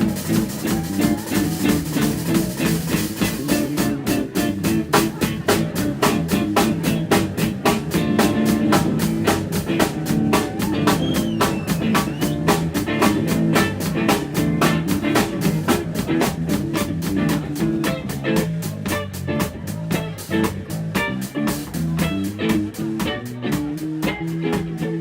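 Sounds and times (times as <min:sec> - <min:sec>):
drum kit fast beat: 0:00.0 - 0:25.0
live band playing: 0:00.0 - 0:25.0.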